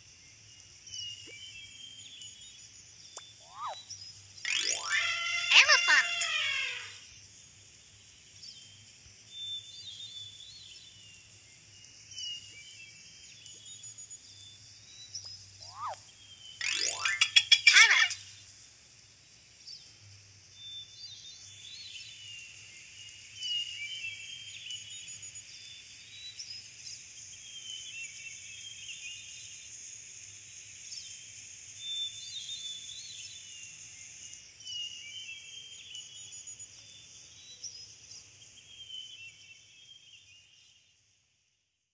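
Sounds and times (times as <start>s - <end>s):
steady high hiss: 0.0s - 41.0s
small birds chirping: 0.0s - 41.1s.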